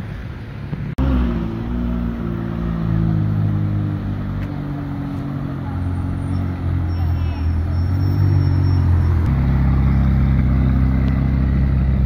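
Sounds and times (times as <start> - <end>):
car engine running at low revs: 0.7 - 12.0.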